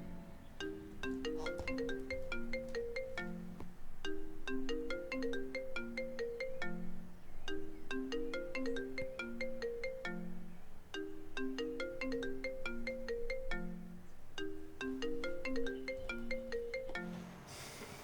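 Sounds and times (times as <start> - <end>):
phone ringtone melody: 0.0 - 17.4.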